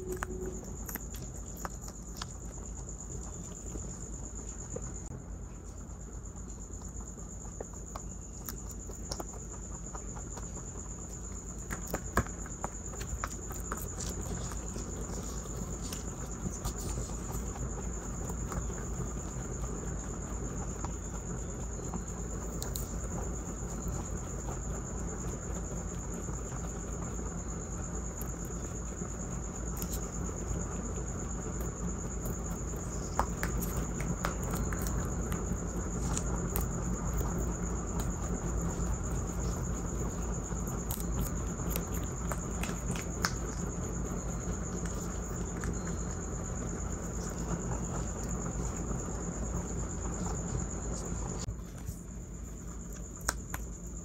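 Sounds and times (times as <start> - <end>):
rabbits crunching green beans: 0.0 - 54.0.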